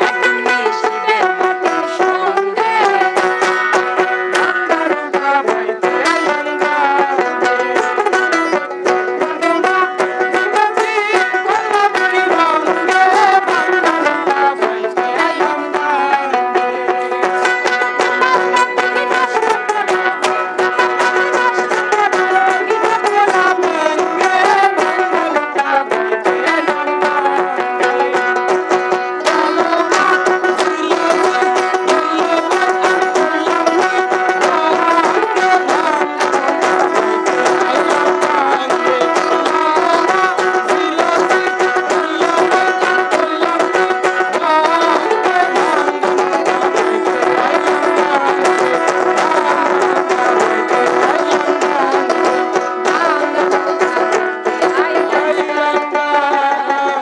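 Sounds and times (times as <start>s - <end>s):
woman singing: 0.0s - 28.3s, 28.9s - 57.0s
light percussion: 0.0s - 57.0s
plucked acoustic guitar: 0.0s - 57.0s.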